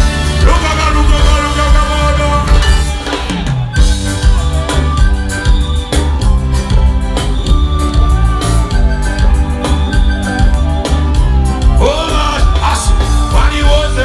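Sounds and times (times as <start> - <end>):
band playing instrumental: 0.0 - 14.0.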